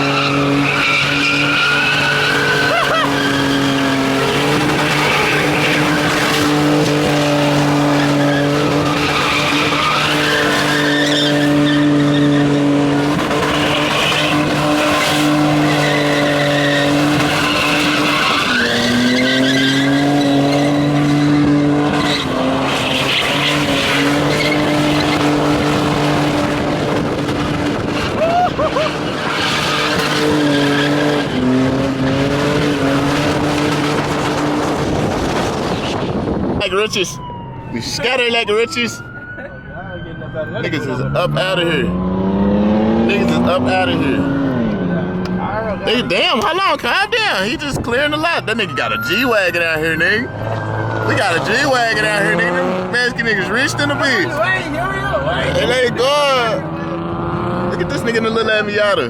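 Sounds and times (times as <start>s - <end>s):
car engine revving high: 0.0s - 36.6s, 40.7s - 46.5s, 48.0s - 59.0s
tires squealing: 0.0s - 59.0s.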